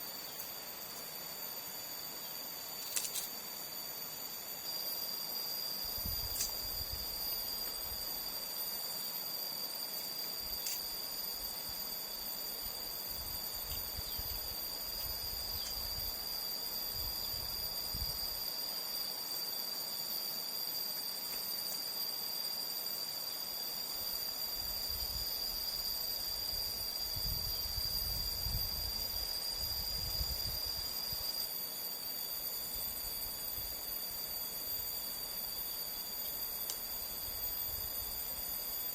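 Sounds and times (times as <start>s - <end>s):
crickets and insects chirping: 0.0s - 38.9s.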